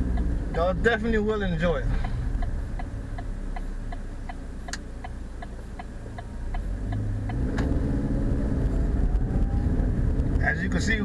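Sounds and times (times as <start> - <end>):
car engine hum: 0.0 - 11.0
turn signal ticking: 0.0 - 11.0.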